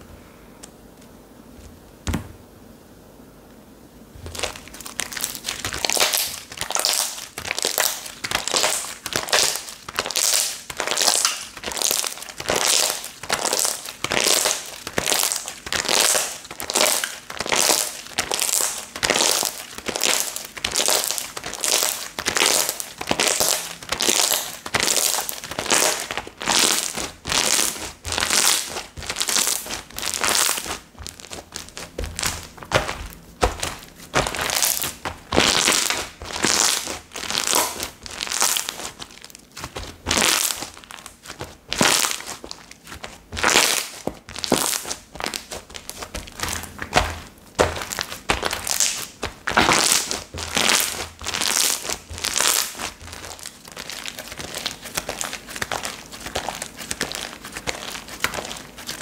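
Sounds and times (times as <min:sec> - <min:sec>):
slime squishing and popping: 0:04.2 - 0:59.0.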